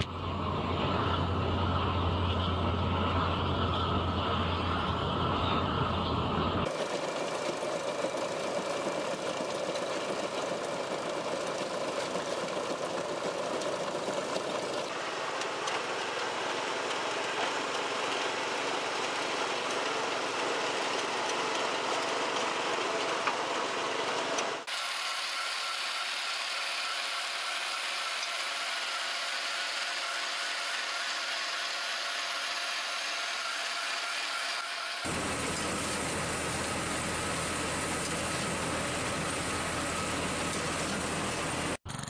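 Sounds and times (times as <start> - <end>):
farm machinery running with rattle: 0.0 - 42.0.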